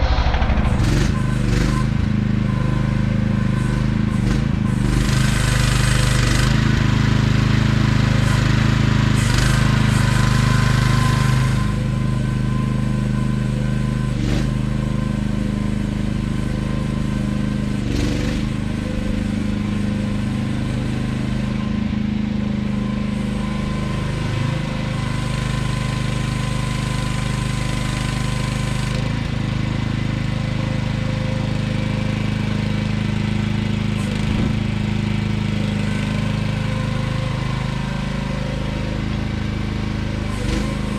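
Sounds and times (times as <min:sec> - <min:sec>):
small excavator engine running: 0:00.0 - 0:40.9.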